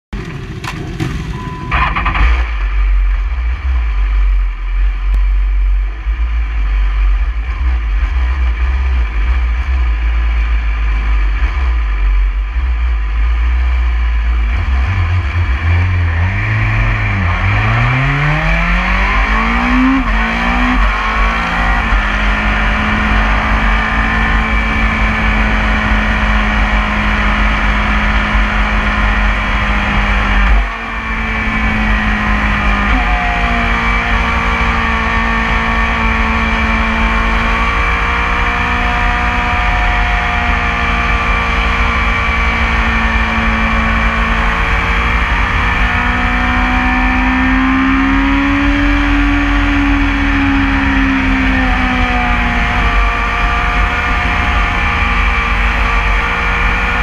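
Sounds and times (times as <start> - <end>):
motorcycle engine starting and revving: 0.0 - 4.0, 14.4 - 57.0.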